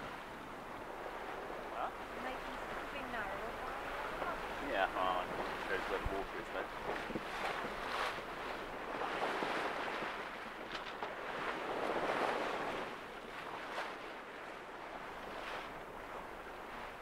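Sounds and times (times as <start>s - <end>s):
water rushing along hull: 0.0s - 17.0s
wind: 0.0s - 17.0s.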